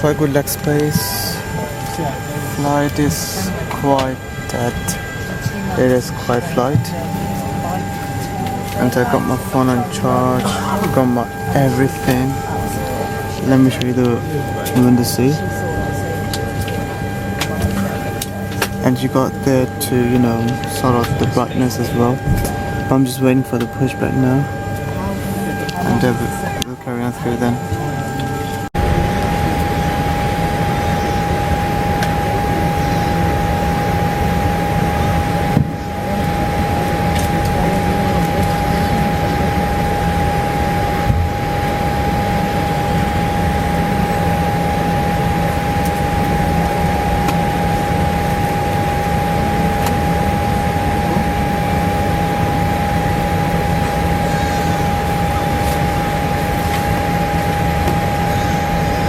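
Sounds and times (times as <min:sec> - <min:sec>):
low hum: 0:00.0 - 0:59.0
steady cabin whine: 0:00.0 - 0:59.0.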